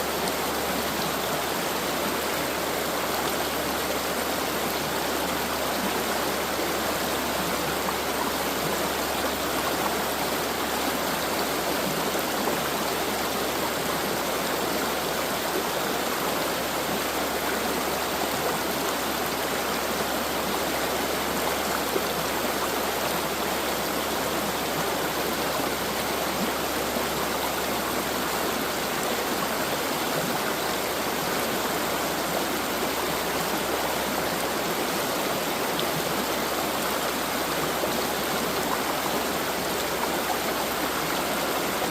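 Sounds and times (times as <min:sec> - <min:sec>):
stream water rushing over rocks: 0:00.0 - 0:41.9.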